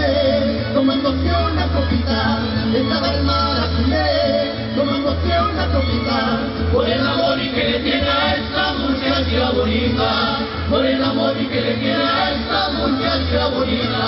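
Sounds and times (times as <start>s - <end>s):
deep bass guitar: 0.0s - 14.0s
men singing together: 0.0s - 14.0s
strummed guitars: 0.0s - 14.0s.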